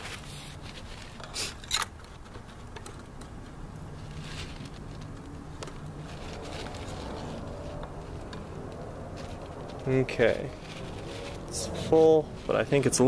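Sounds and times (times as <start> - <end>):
faint handling sounds: 0.0 - 13.0.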